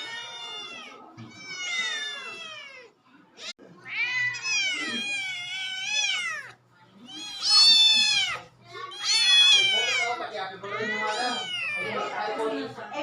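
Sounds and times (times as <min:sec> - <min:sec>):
cat meowing: 0:00.0 - 0:12.2.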